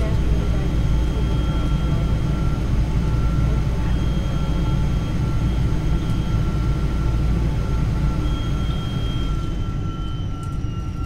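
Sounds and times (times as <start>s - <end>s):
aircraft cabin rumble: 0.0s - 11.0s
thin steady whines: 0.0s - 11.0s.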